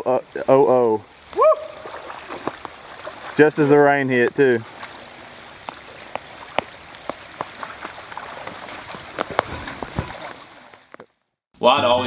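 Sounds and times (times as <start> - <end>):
rain falling: 0.0 - 11.0
raindrops striking close by: 0.0 - 11.0.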